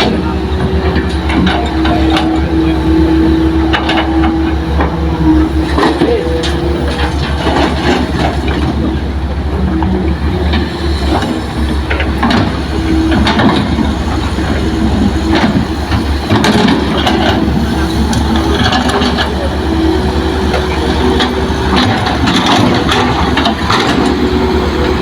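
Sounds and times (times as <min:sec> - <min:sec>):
diesel engine running under load: 0:00.0 - 0:25.0
excavator knocks and clanks: 0:00.0 - 0:25.0.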